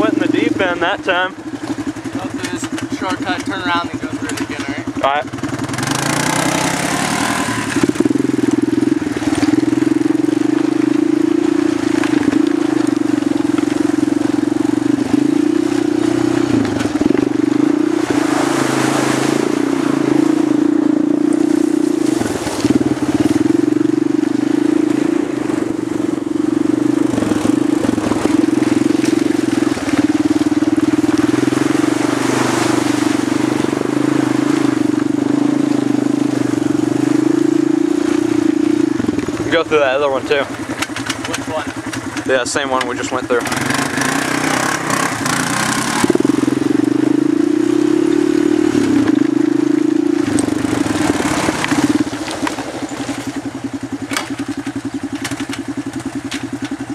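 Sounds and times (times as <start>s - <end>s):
quad bike engine running: 0.0s - 56.9s.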